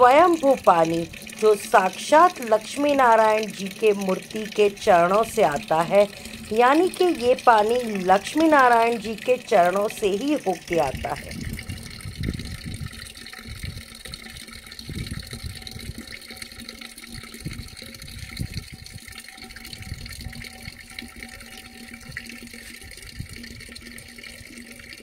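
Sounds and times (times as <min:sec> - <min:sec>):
stream of water pouring: 0:00.0 - 0:25.0.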